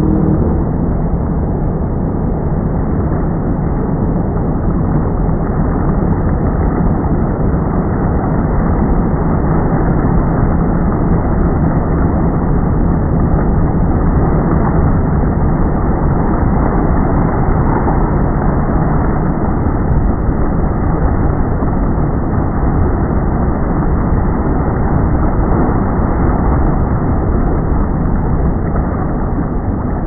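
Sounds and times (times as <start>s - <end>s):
boat motor droning: 0.0s - 30.0s
wind and water noise: 0.0s - 30.0s.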